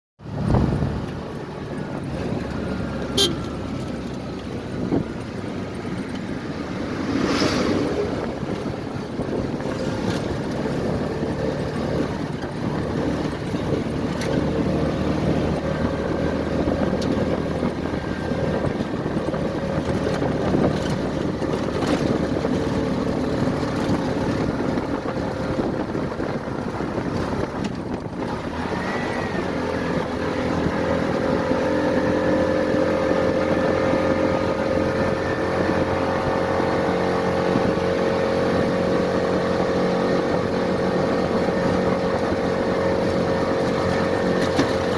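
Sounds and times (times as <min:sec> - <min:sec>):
engine running steadily: 0:00.2 - 0:44.9
wind noise: 0:00.2 - 0:44.9.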